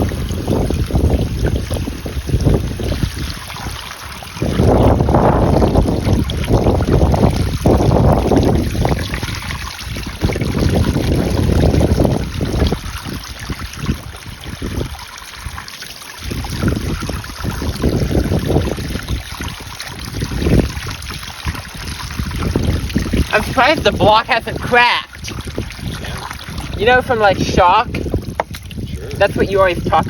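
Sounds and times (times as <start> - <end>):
water splashing on hot engine: 0.0 - 30.0
wind noise on microphone: 0.0 - 30.0.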